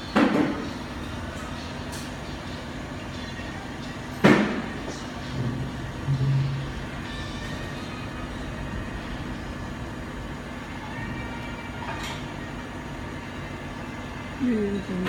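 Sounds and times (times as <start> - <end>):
rework station fans running: 0.0 - 15.0.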